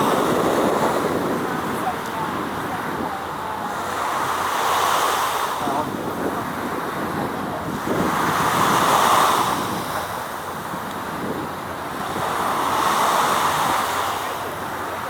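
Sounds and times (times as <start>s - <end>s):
waves: 0.0s - 15.0s
wind: 0.0s - 15.0s.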